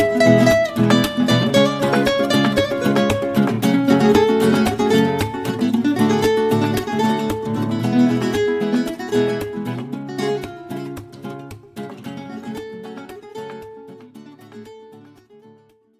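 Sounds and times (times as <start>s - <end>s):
acoustic guitar music: 0.0s - 15.9s.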